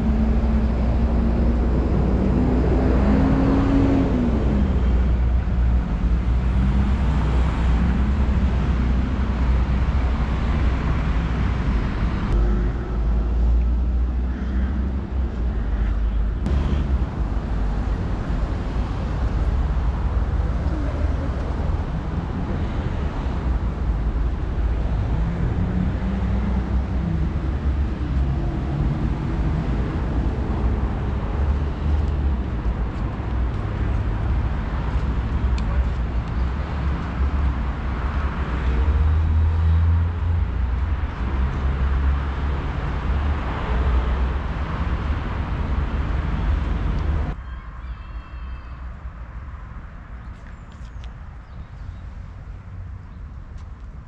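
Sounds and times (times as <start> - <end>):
steady low traffic rumble: 0.0 - 54.0.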